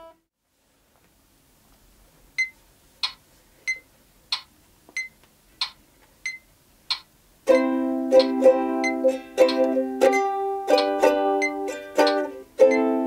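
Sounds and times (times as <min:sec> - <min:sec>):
metronome ticking: 0:02.4 - 0:13.0.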